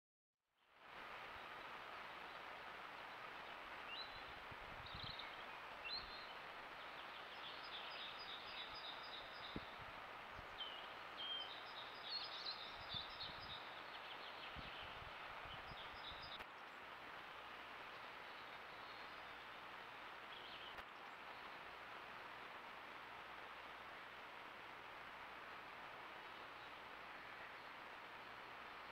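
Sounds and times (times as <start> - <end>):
steady background hiss: 0.6 - 28.9
small birds chirping: 1.3 - 22.1, 24.9 - 28.9.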